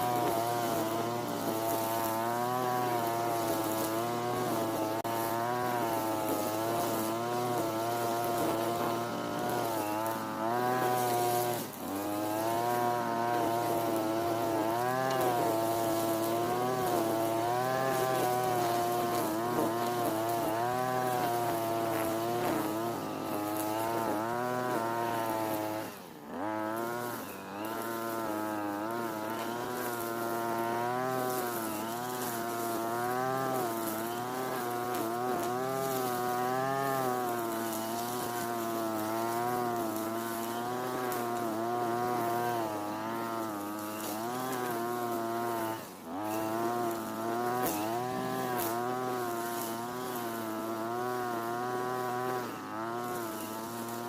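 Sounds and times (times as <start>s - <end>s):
brush cutter at high revs: 0.0s - 54.0s.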